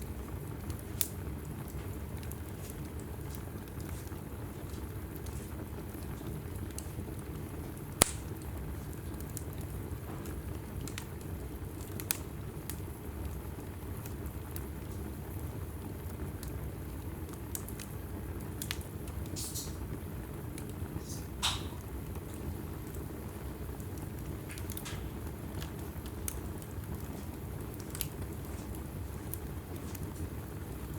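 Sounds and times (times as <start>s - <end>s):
fire flames rumbling: 0.0s - 30.9s
logs crackling and popping: 0.0s - 30.9s.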